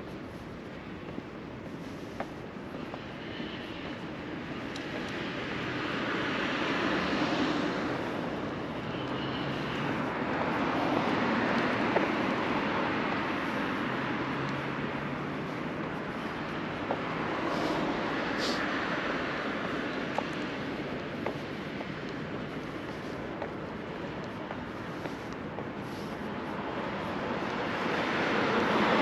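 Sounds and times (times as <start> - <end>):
passing road traffic: 0.0 - 29.0.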